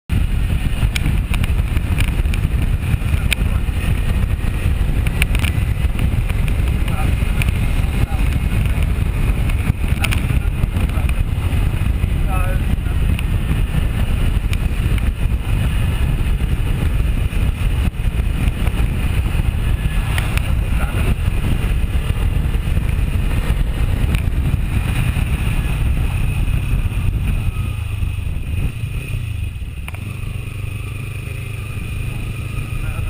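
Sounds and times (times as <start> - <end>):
motorcycle engine rumble: 0.1 - 33.0
road and wind noise: 0.1 - 33.0.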